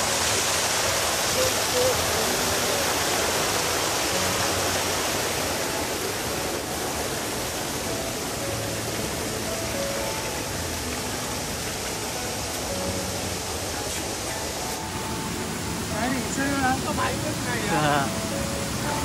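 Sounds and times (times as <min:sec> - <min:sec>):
faint background music: 0:00.0 - 0:19.0
waterfall rushing: 0:00.0 - 0:19.0.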